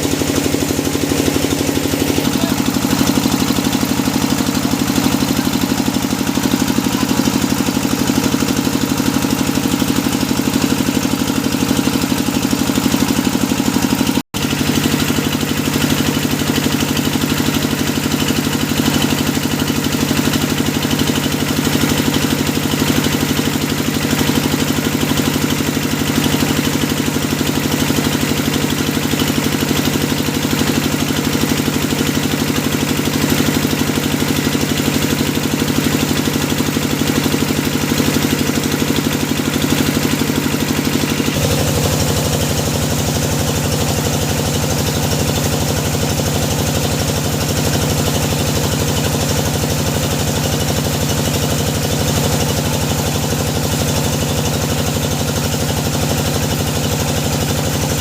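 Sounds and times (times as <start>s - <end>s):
drilling machine engine running: 0.0s - 58.0s.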